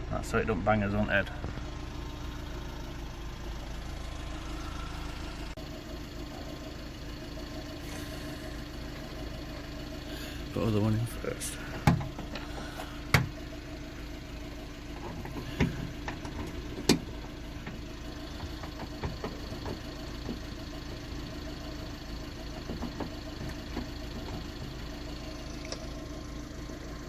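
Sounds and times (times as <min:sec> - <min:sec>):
steady engine-like hum: 0:00.0 - 0:27.0.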